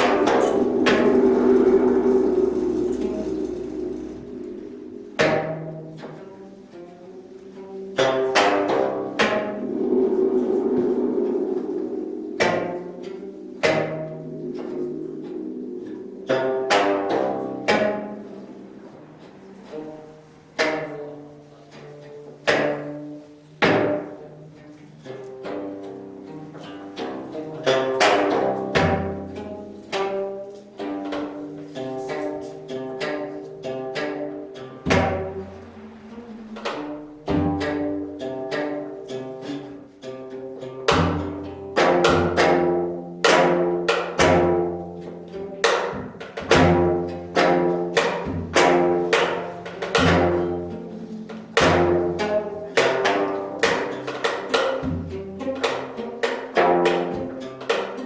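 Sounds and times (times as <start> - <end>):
plucked zither notes: 0.0 - 58.0.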